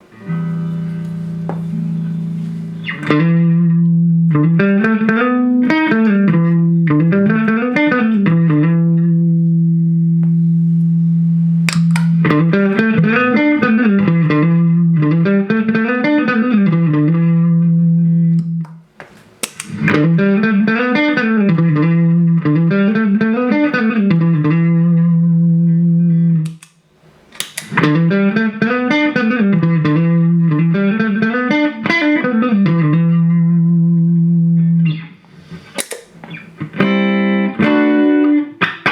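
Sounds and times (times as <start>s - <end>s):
electric guitar phrase with bends: 0.0s - 18.6s, 19.7s - 26.5s, 27.8s - 35.3s, 36.2s - 38.9s.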